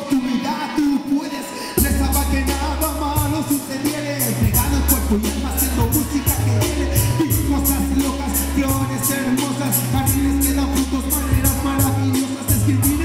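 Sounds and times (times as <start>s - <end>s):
rapping through microphone: 0.0s - 13.0s
deep bass notes: 1.8s - 13.0s
steady hi-hat: 1.8s - 13.0s.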